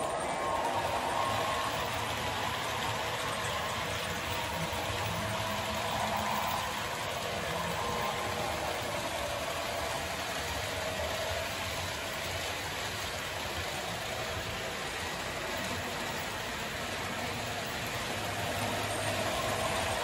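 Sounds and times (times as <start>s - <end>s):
faint motor whine: 0.0s - 20.0s
model train wheels rumbling: 0.0s - 20.0s.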